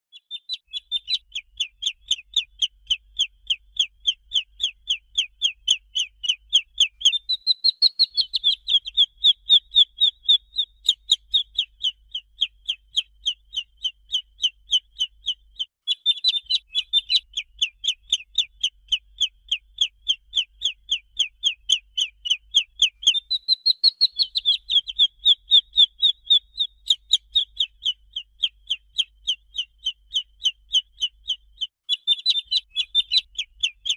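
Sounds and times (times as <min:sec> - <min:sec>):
chick peeping: 0:00.2 - 0:33.9.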